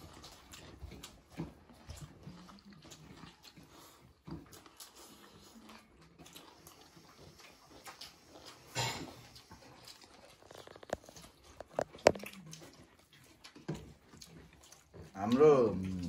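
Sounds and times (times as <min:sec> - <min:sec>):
chewing and lip smacking: 0:00.0 - 0:16.0.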